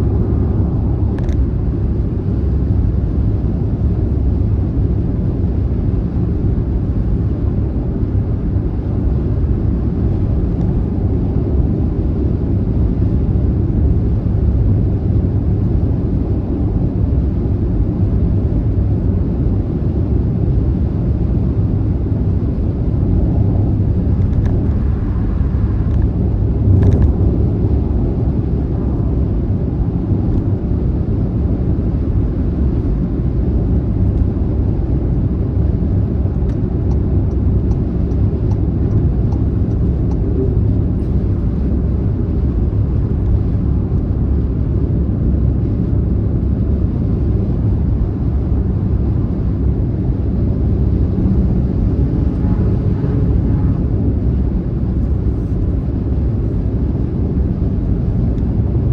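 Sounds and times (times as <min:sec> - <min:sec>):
road and tyre rumble: 0:00.0 - 0:58.9.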